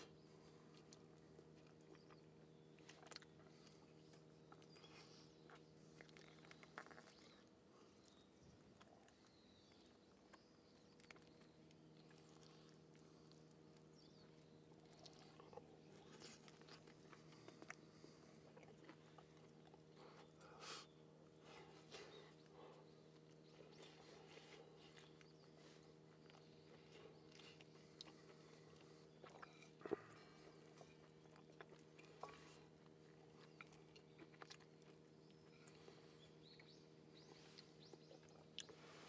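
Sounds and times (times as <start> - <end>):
low steady hum: 0.0 - 39.0
quiet chewing: 0.0 - 39.0.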